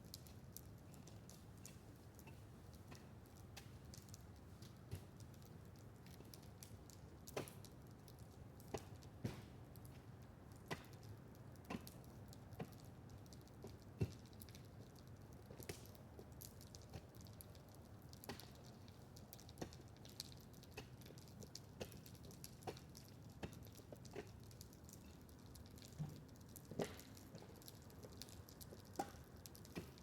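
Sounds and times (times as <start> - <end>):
bonfire crackling and popping: 0.0 - 30.0.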